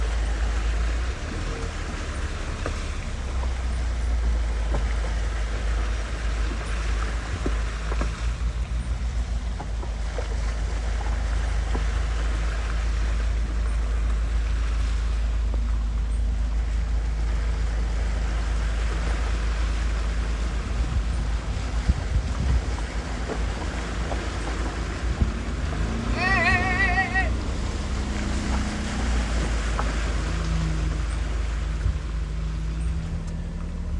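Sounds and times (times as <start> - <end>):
car engine rumbling: 0.0 - 33.9
wind buffeting microphone: 0.0 - 33.9.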